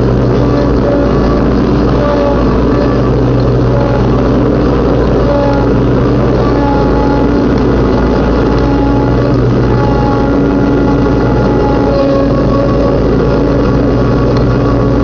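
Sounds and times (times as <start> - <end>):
riding lawnmower engine: 0.0 - 15.0.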